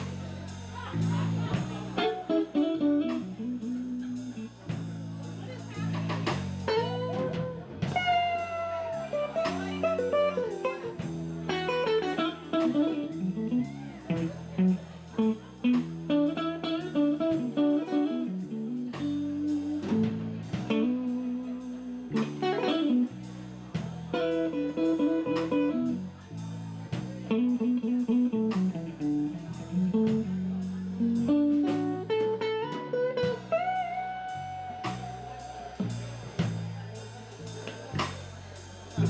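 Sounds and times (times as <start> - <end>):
drum kit steady beat: 0.0 - 39.0
electric bass: 0.0 - 39.0
electric guitar with bent notes: 0.0 - 39.0.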